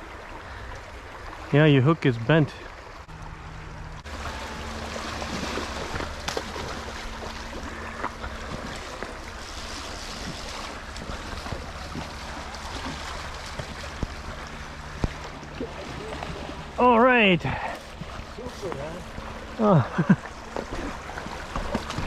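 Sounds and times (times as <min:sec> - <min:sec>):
river current rushing: 0:00.0 - 0:22.0.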